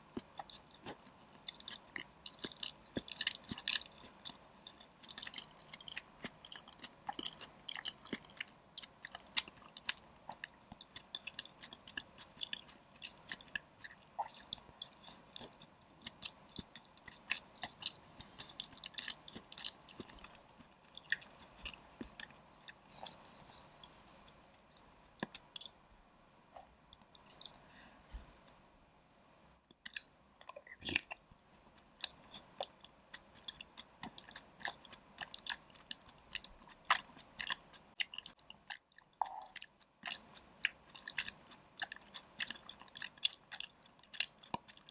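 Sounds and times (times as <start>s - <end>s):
person chewing: 0.1s - 25.8s, 26.5s - 28.6s, 29.7s - 31.3s, 32.0s - 44.9s.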